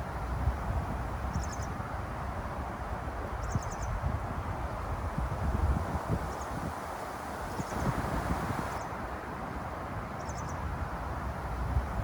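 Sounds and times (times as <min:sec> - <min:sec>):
rain hiss: 0:00.0 - 0:12.0
wind buffeting microphone: 0:00.0 - 0:12.0.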